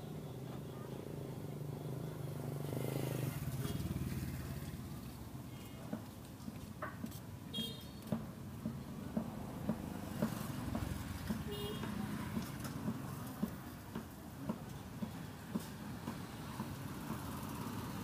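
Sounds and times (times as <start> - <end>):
motorbikes: 0.0 - 18.0
street traffic hum: 0.0 - 18.0.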